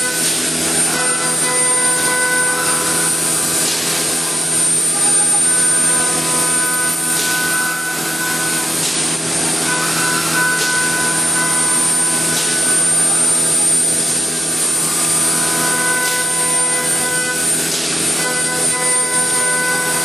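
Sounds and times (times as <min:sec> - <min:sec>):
machine whining tones: 0:00.0 - 0:20.0.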